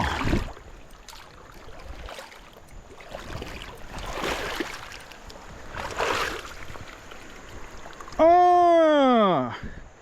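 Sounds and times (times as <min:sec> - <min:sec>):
water splashing: 0:00.0 - 0:08.4.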